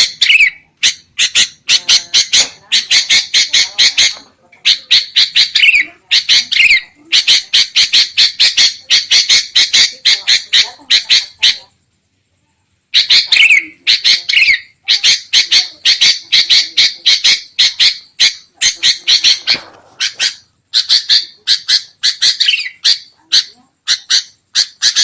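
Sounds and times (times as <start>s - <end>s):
birds chattering harshly: 0.0s - 25.0s.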